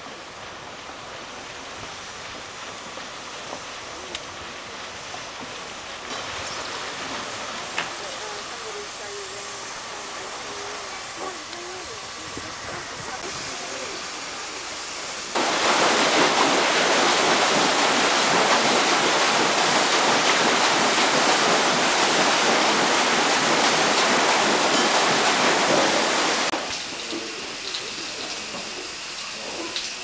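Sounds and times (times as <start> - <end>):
paddle wheel churning water: 0.0 - 30.0.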